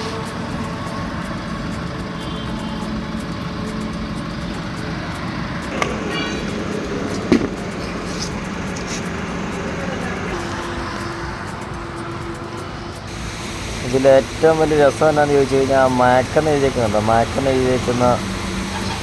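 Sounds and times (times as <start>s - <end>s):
vehicle engine and traffic: 0.0s - 19.0s.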